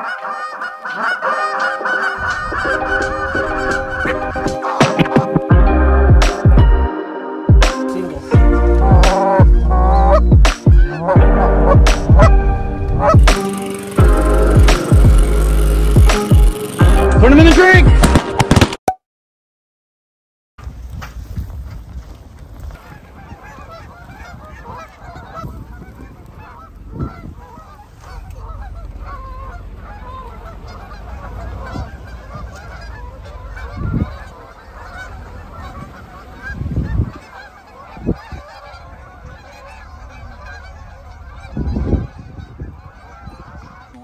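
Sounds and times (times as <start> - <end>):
geese honking: 0.0 - 17.8, 22.7 - 44.0.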